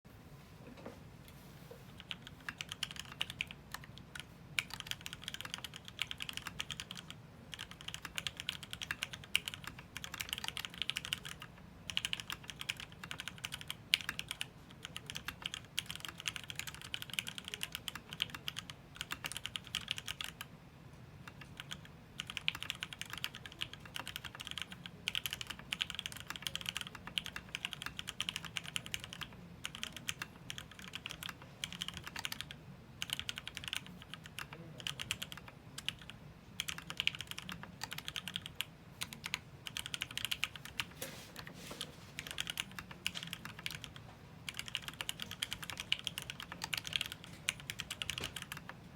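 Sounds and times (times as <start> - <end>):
fast mechanical keyboard typing: 2.0 - 20.5, 21.2 - 41.5, 42.2 - 48.8.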